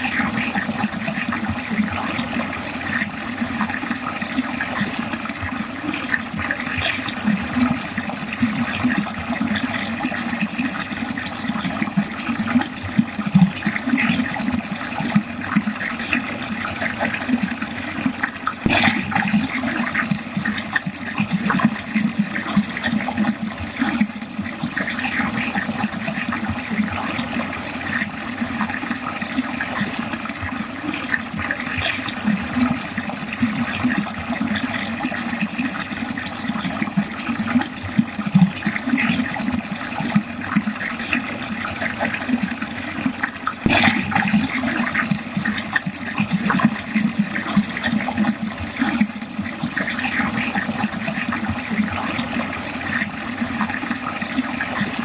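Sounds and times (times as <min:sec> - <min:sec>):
water gurgling down a drain: 0:00.0 - 0:55.0.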